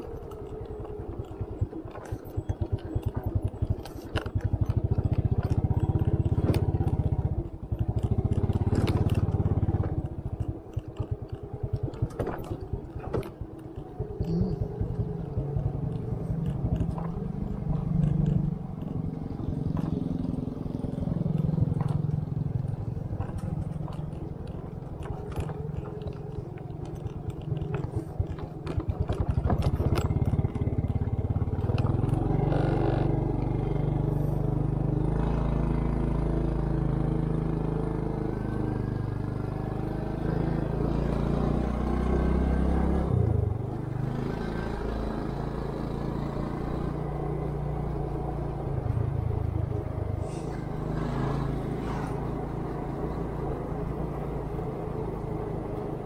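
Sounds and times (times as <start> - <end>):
rattling over rough road: 0.0 - 56.0
scooter engine running: 0.0 - 56.0.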